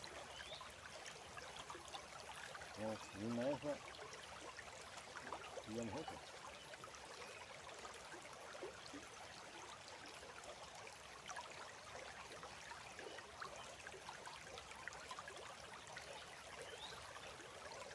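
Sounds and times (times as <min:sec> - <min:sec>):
small water splashes: 0:00.0 - 0:17.9
stream water flowing: 0:00.0 - 0:17.9.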